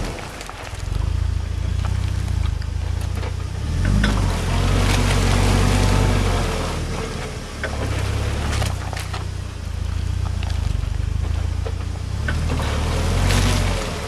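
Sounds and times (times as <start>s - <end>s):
sharp clicks and cracks: 0.0s - 6.0s, 6.8s - 14.0s
car engine running at low revs: 0.0s - 14.0s.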